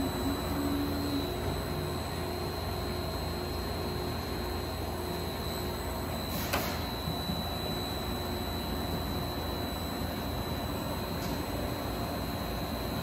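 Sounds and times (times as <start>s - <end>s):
grinding machine hum and hiss: 0.0s - 13.0s
high steady machine whine: 0.0s - 13.0s.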